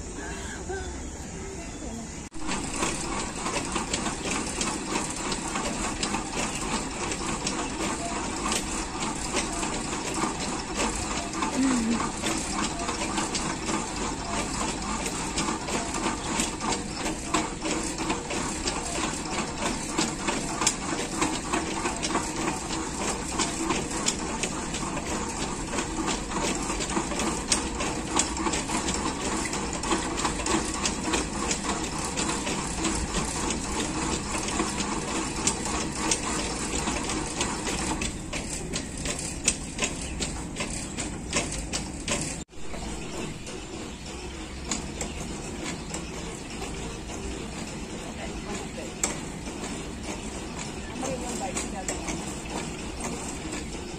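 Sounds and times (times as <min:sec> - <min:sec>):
exercise bike whirring and clicking: 0:00.0 - 0:53.9.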